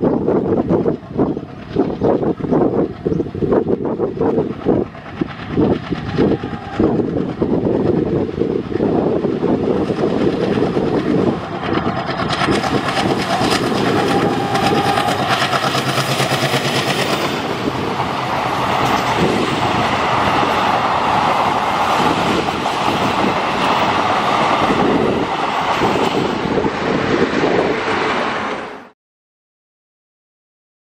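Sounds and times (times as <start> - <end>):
passenger train passing: 0.0 - 29.0.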